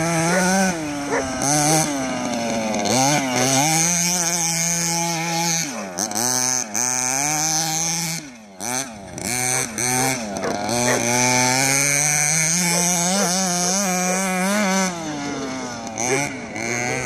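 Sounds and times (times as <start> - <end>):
small two-stroke engine revving: 0.0 - 17.0.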